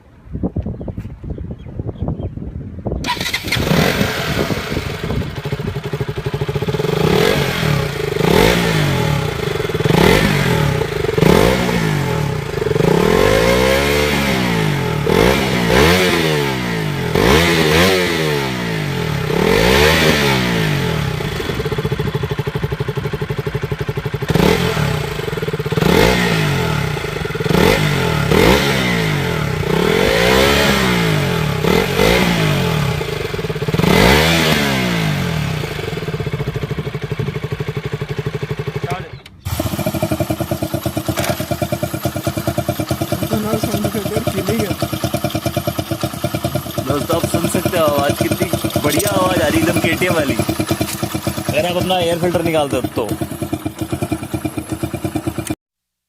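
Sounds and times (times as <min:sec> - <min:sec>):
motorcycle engine revving: 0:03.0 - 0:55.6.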